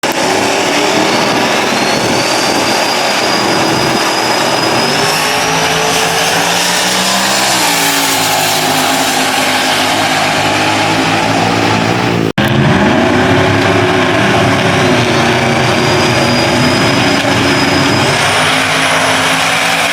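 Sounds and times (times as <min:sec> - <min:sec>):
loud car engine running: 0:00.0 - 0:19.9
turbo whistle rising: 0:00.0 - 0:19.9.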